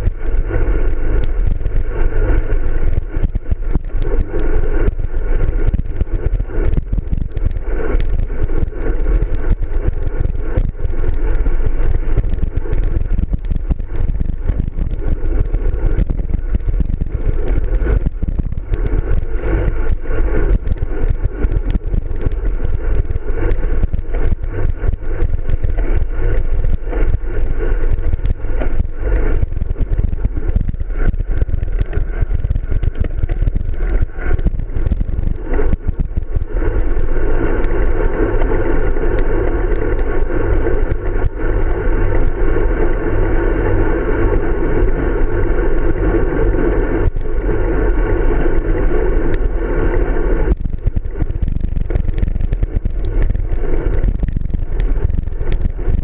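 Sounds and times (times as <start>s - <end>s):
steady buzzing hum: 0.0s - 56.0s
tyre rumble on asphalt: 0.0s - 56.0s
wind buffeting microphone: 0.0s - 56.0s.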